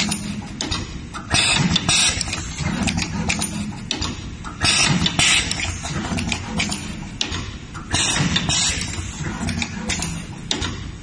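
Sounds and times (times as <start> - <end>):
machine clicks and clacks: 0.0 - 11.0.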